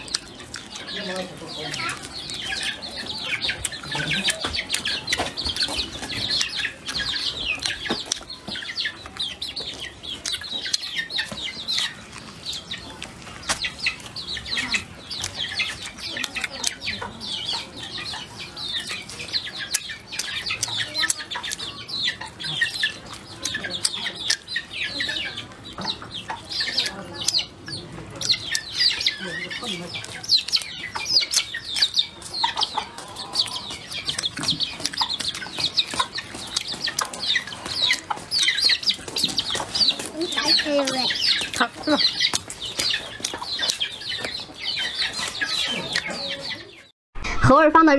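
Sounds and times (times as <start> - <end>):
chewing clicks on meat and bone: 0.0 - 2.8, 3.5 - 8.4, 9.0 - 17.1, 18.8 - 25.0, 26.5 - 46.2
chickens clucking and chirping: 0.0 - 47.4.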